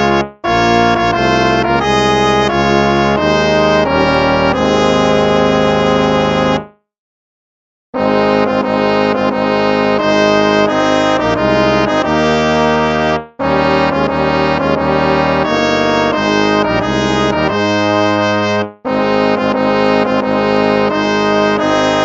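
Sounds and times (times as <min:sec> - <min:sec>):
brass hymn tune: 0:00.0 - 0:06.7, 0:08.0 - 0:22.0.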